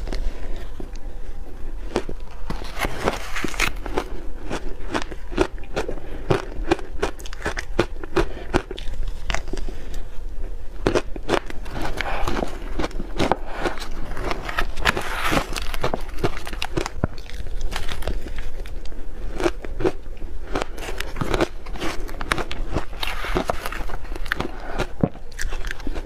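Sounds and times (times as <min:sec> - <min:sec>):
crisp crunches of ice chewing: 0:02.0 - 0:09.8, 0:10.8 - 0:26.0.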